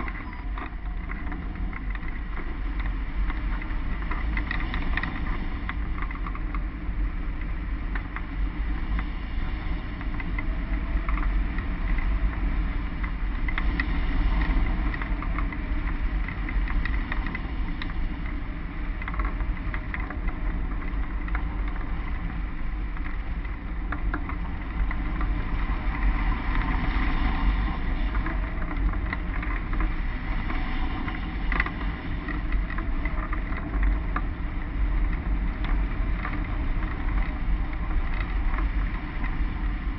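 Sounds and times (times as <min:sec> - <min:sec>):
airflow rushing over microphone: 0:00.0 - 0:39.9
faint ticks and rattles: 0:00.0 - 0:39.9.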